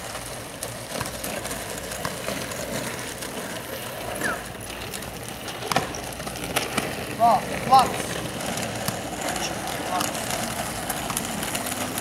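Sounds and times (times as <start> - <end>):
wheels rolling on asphalt: 0.0 - 12.0.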